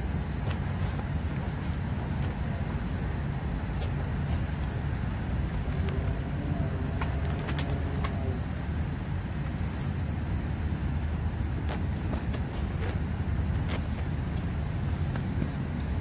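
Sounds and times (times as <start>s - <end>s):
seat cover rustling: 0.0s - 10.0s, 11.4s - 16.0s
low background rumble: 0.0s - 16.0s.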